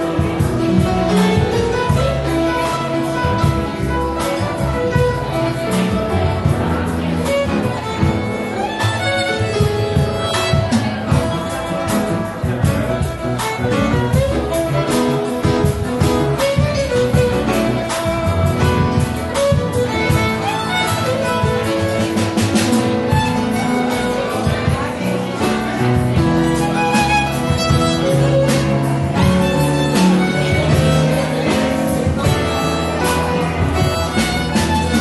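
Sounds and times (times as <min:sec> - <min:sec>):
piano music: 0:00.0 - 0:35.0.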